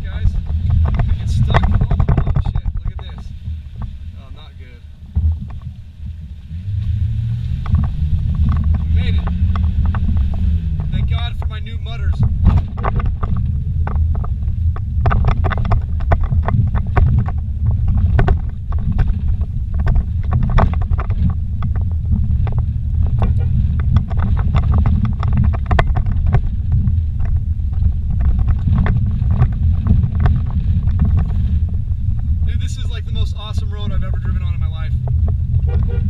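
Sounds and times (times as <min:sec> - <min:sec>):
knocks and rattles over bumps: 0:00.0 - 0:36.0
vehicle rumble inside cabin: 0:00.0 - 0:36.0.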